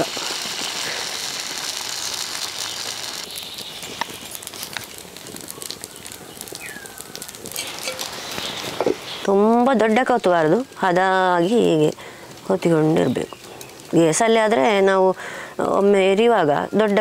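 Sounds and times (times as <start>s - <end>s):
batter sizzling in a pan: 0.0s - 14.1s
fire crackling: 0.0s - 17.0s.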